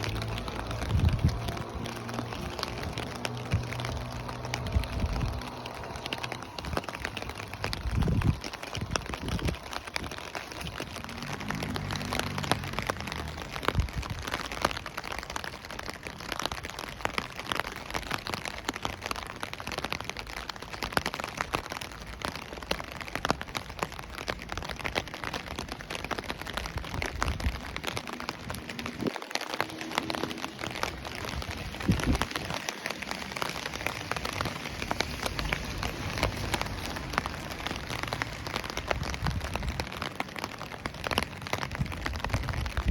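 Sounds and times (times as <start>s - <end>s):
raindrops ticking on a surface: 0.0s - 42.9s
steady rain falling: 0.0s - 42.9s.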